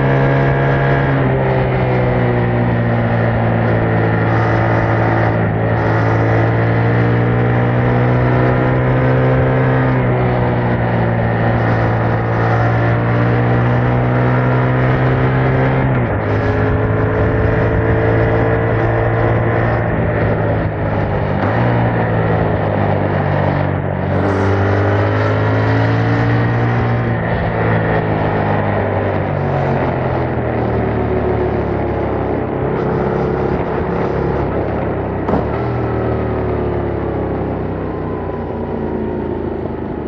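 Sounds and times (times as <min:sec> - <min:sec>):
motorcycle engine shifting gears: 0:00.0 - 0:40.0.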